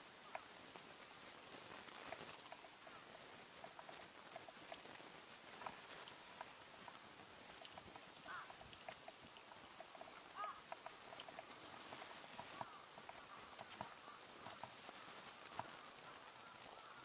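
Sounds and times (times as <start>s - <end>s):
horse chewing grass: 1.0s - 16.9s.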